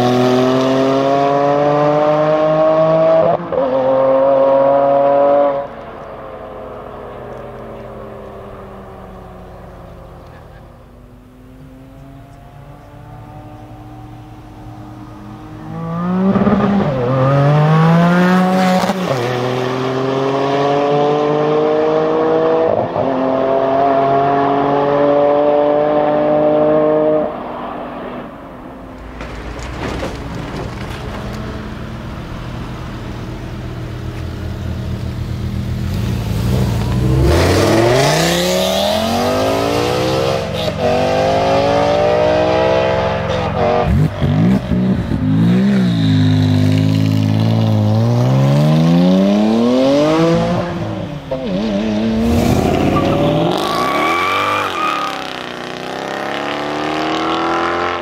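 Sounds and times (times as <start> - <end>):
car engine idling and accelerating: 0.0 - 58.0.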